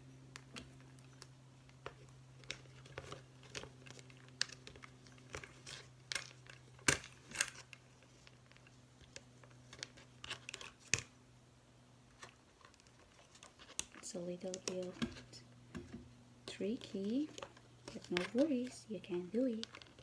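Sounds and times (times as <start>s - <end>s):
paper rustling and crinkling: 0.4s - 11.1s, 12.1s - 15.4s, 16.7s - 20.0s.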